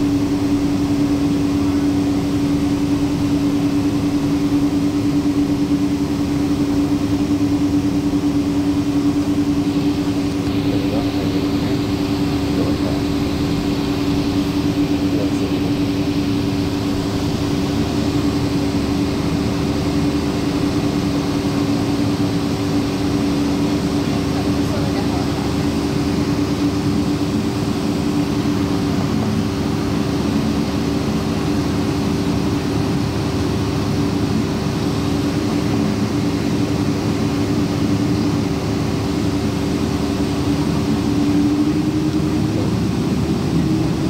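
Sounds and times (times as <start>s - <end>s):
jet engines idling in cabin: 0.0s - 44.0s.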